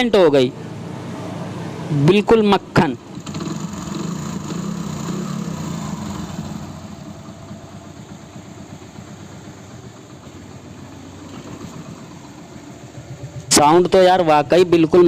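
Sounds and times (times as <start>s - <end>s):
motorcycle engine idling smoothly: 0.0s - 15.0s.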